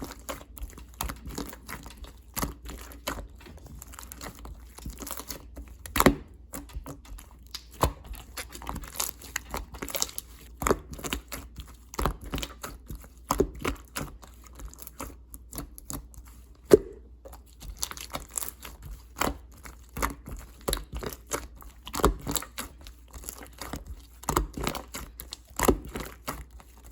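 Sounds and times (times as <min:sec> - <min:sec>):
slime squished by hand: 0:00.0 - 0:26.9.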